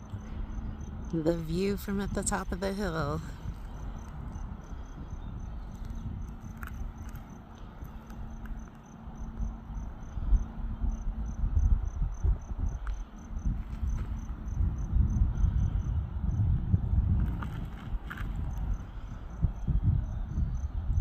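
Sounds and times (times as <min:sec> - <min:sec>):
insect chirping: 0:00.0 - 0:16.6, 0:17.2 - 0:21.0
wind rumble on microphone: 0:00.0 - 0:21.0.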